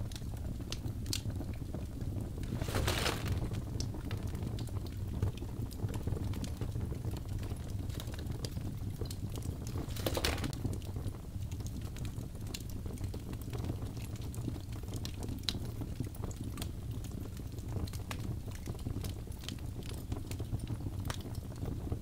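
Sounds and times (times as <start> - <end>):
logs crackling in fireplace: 0.0 - 21.8.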